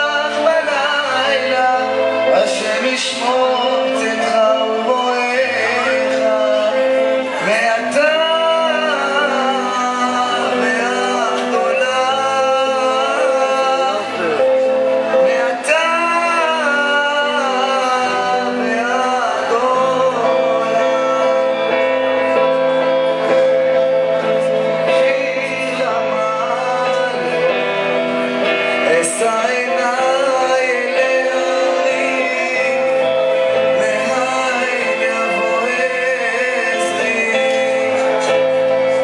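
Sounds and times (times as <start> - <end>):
bass guitar: 0.0 - 39.0
electric guitar: 0.0 - 39.0
man singing: 0.0 - 39.0.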